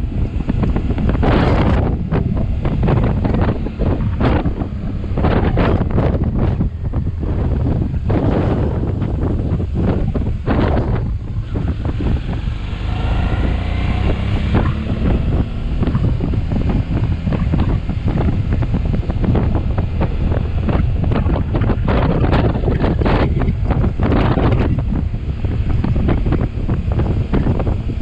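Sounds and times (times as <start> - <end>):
motorcycle engine: 0.0 - 28.0
wind buffeting microphone: 0.0 - 28.0.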